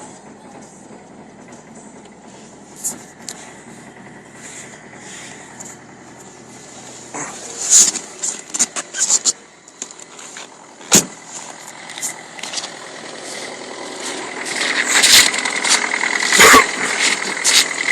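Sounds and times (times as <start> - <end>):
diesel car engine: 0.0 - 17.9.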